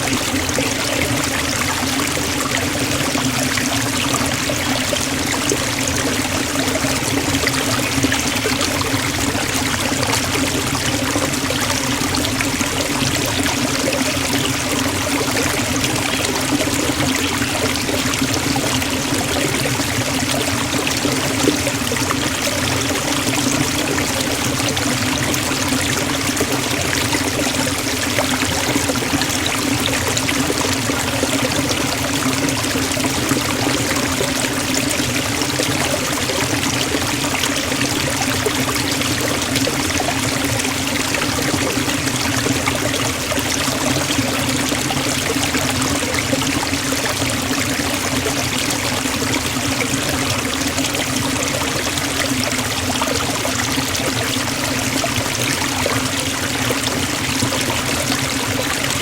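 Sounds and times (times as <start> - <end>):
waterfall falling into a pool: 0.0 - 59.0.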